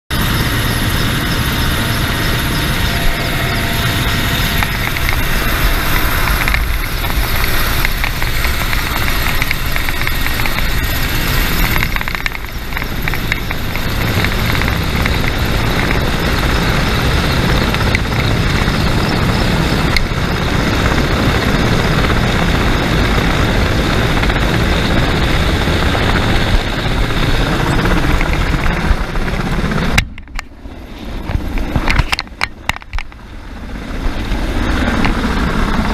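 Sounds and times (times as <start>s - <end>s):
helicopter rotor and engines: 0.1s - 35.9s.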